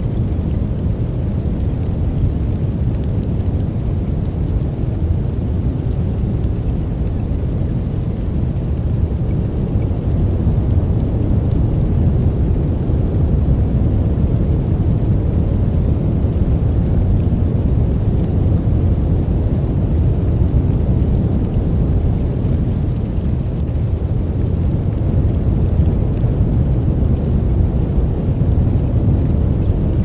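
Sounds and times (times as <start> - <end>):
deep dark noise: 5.3 - 30.0.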